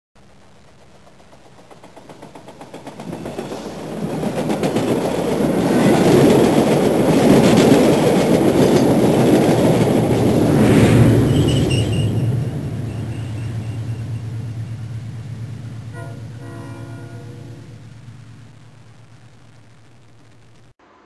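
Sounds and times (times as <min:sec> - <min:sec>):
train rumbling and clicking: 0:00.5 - 0:18.7.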